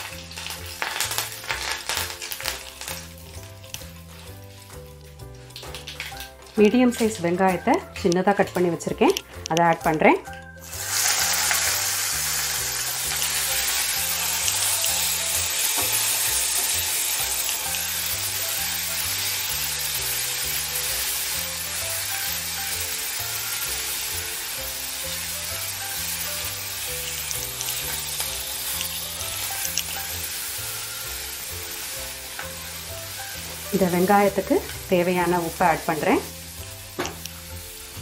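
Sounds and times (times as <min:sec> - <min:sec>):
onions sizzling in oil: 0:00.0 - 0:38.0.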